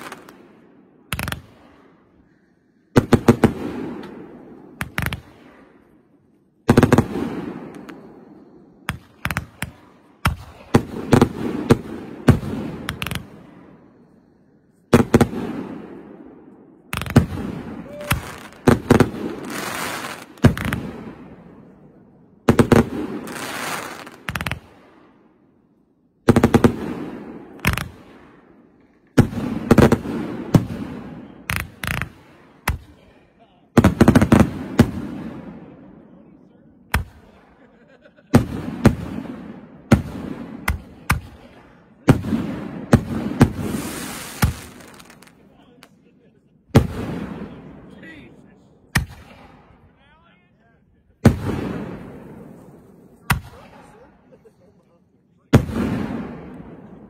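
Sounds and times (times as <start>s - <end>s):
fireworks bangs: 0.0s - 2.2s, 2.8s - 14.2s, 14.8s - 25.4s, 26.2s - 33.0s, 33.7s - 46.1s, 46.7s - 50.2s, 51.1s - 54.4s, 55.4s - 57.0s.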